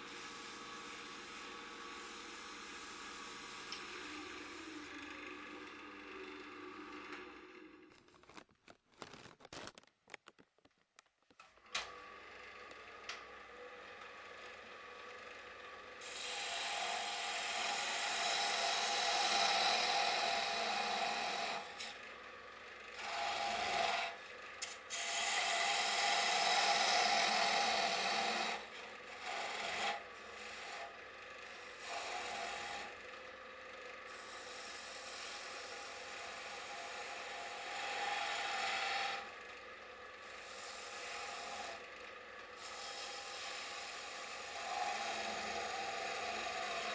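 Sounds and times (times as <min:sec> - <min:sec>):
lathe running faintly: 0:00.0 - 0:08.0, 0:11.6 - 0:46.9
lathe tool scraping wood: 0:00.0 - 0:09.3, 0:11.7 - 0:46.9.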